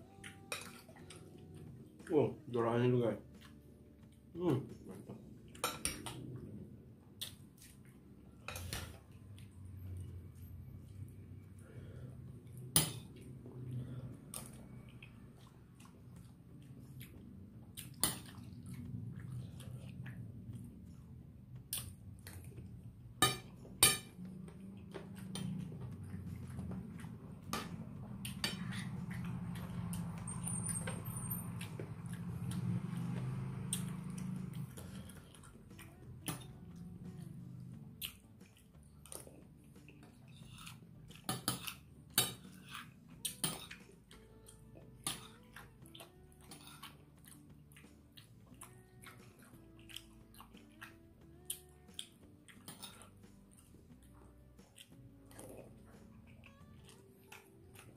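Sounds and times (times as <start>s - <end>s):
chewing: 7.2s - 22.8s, 24.2s - 57.9s.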